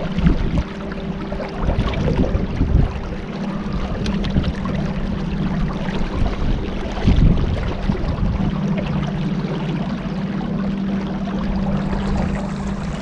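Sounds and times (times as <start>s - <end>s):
motorboat engine humming: 0.0s - 13.0s
water rushing: 0.0s - 13.0s.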